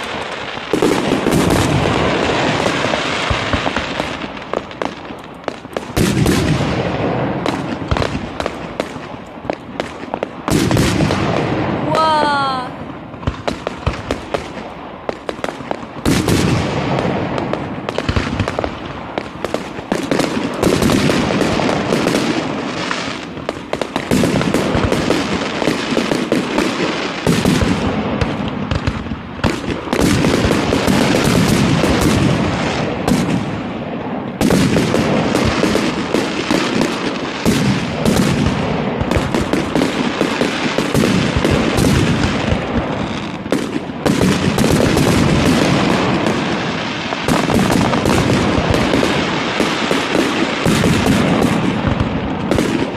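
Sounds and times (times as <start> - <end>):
fireworks barrage: 0.0 - 52.9.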